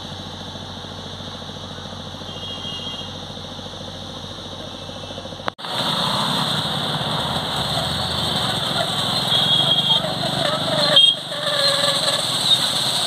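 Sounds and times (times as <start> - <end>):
engine running: 0.0 - 13.0
hissy engine noise: 0.0 - 13.0.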